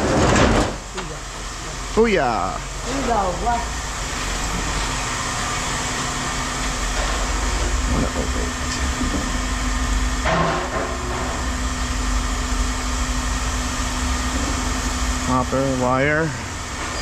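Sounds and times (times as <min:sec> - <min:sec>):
heavy machinery droning: 0:00.0 - 0:17.0.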